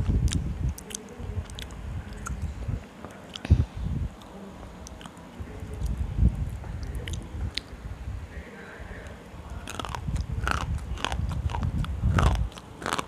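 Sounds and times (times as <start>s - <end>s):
quiet chewing: 0.0s - 7.8s, 9.0s - 13.0s.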